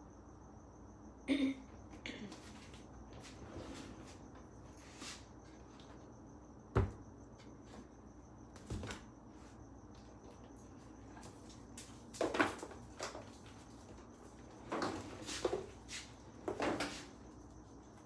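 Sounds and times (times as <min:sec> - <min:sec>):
faint high steady whine: 0:00.0 - 0:18.0.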